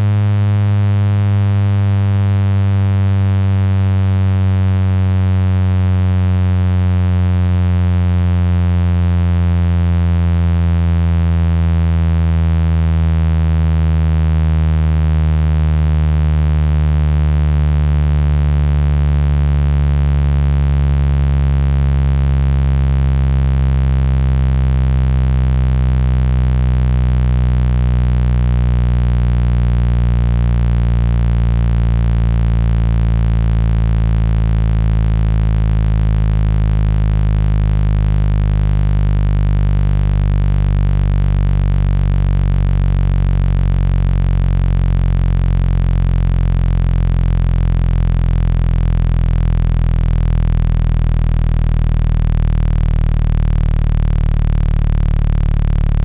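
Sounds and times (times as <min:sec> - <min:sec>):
deep electronic buzz: 0:00.0 - 0:56.0.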